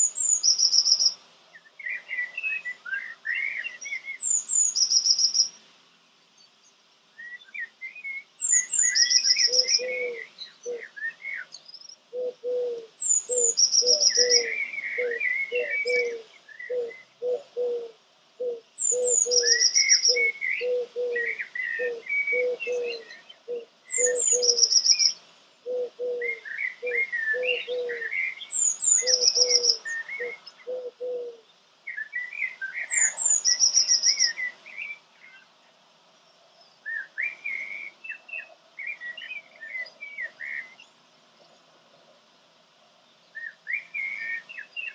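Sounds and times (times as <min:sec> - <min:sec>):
birds singing: 0:00.0 - 0:05.6, 0:06.4 - 0:41.7, 0:43.1 - 0:44.9.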